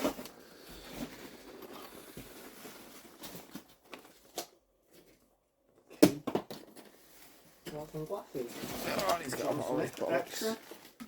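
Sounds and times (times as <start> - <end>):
faint rustling and crinkling: 0.0 - 5.9, 6.6 - 11.0.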